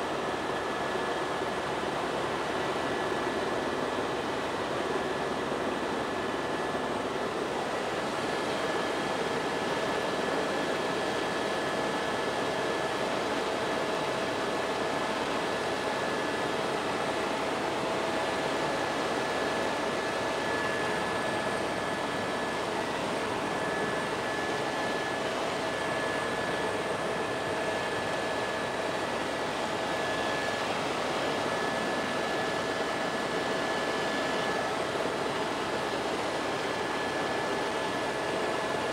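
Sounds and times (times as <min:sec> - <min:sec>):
helicopter engine and rotor noise: 0:00.0 - 0:38.9
multi-tone whine: 0:00.0 - 0:38.9.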